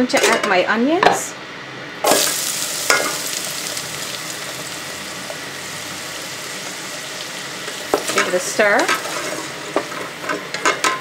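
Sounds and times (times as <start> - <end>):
onions sizzling in hot oil: 2.0 - 11.0.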